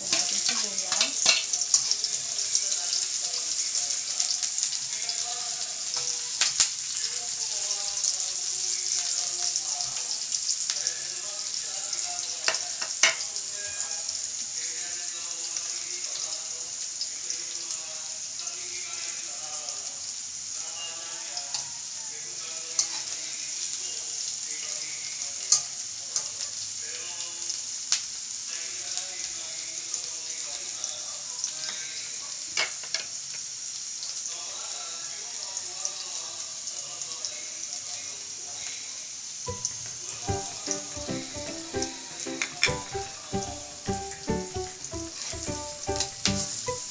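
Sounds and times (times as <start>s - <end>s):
onions sizzling in oil: 0.0s - 46.9s.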